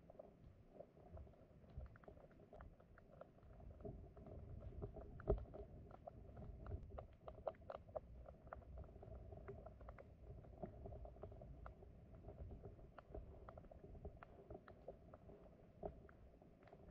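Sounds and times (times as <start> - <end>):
small clicks and ticks: 0.0 - 16.9
underwater stream rumble: 0.0 - 16.9.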